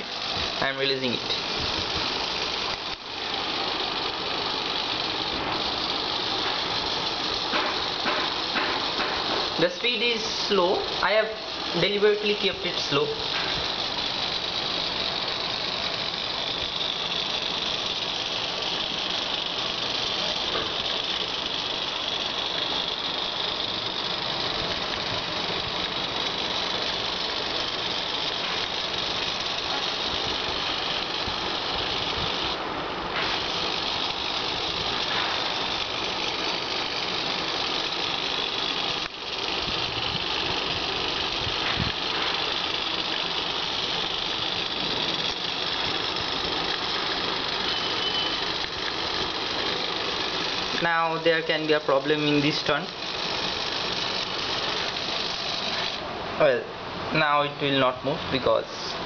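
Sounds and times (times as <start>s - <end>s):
small motors whirring: 0.0s - 59.0s.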